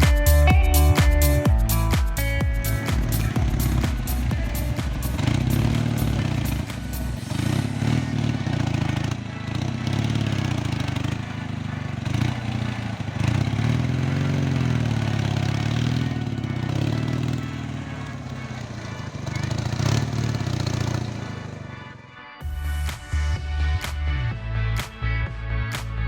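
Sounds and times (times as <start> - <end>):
motorcycle engine revving: 0.0 - 22.4.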